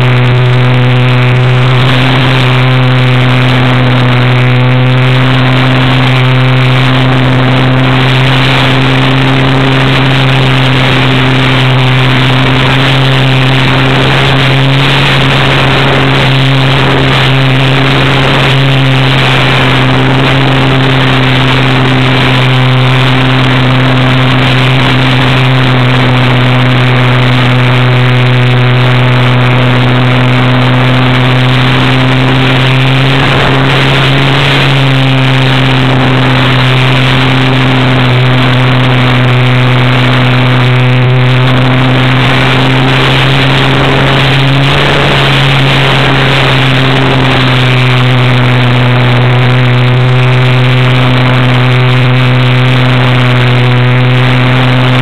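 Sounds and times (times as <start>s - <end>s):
model plane motor and propeller drone: 0.0s - 55.0s.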